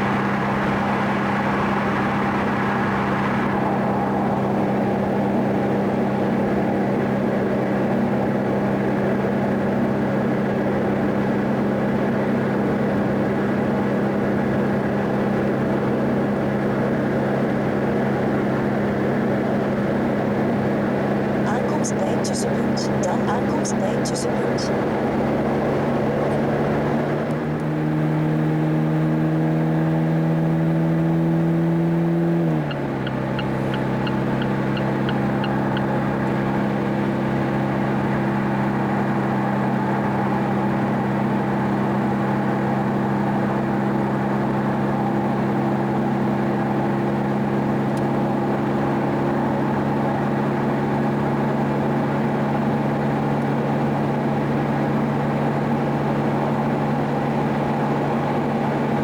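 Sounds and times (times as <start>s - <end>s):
car engine droning: 0.0s - 59.0s.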